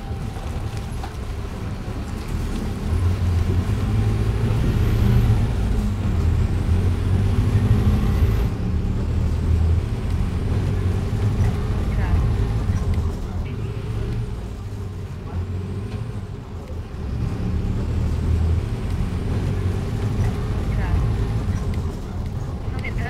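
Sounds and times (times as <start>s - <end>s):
road traffic engine rumble: 0.0s - 23.0s.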